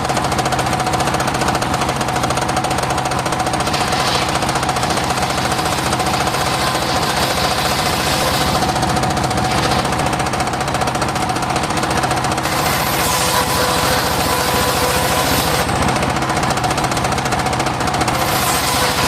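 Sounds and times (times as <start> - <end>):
engine-driven circular saw running: 0.0 - 19.0.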